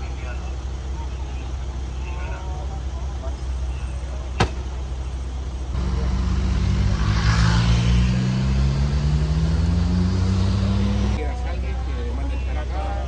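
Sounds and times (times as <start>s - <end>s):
vehicle engine idling: 0.0s - 7.1s, 8.0s - 13.0s.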